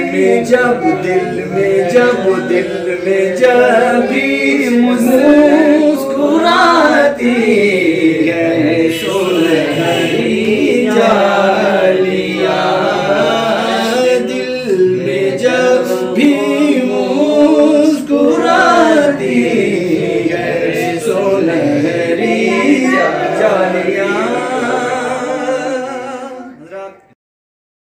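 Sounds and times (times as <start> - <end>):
men singing unaccompanied: 0.0 - 27.2.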